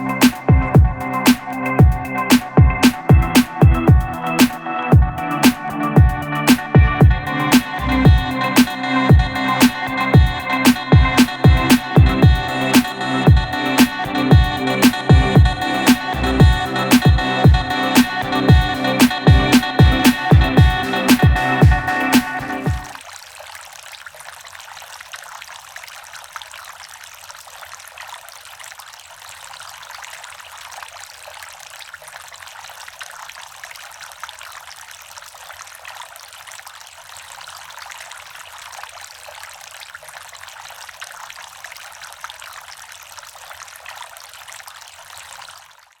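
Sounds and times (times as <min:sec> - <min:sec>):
fountain water trickling and splashing: 0:07.1 - 0:46.0.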